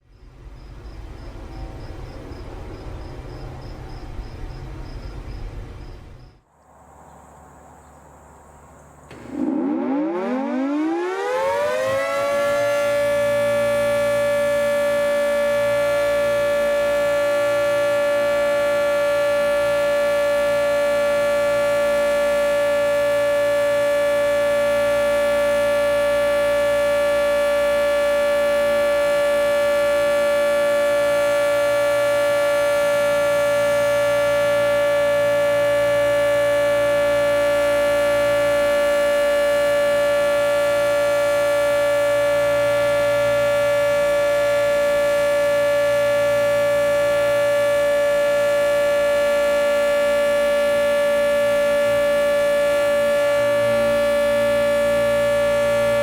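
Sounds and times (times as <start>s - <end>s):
warning siren: 9.1s - 56.0s.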